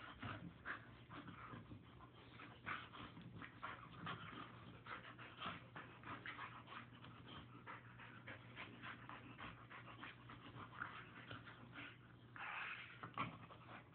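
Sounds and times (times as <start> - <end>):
dog panting: 0.0 - 13.9.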